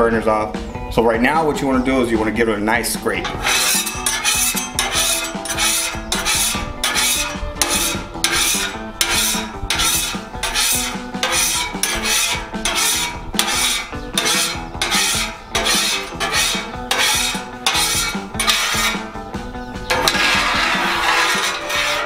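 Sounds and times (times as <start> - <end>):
metal spatula scraping a griddle: 3.1 - 22.0.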